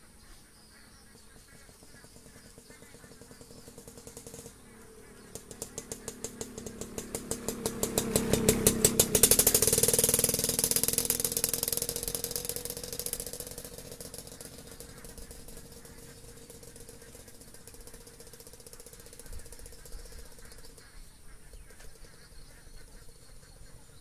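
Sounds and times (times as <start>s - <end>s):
motorcycle passing by: 0.0s - 24.0s.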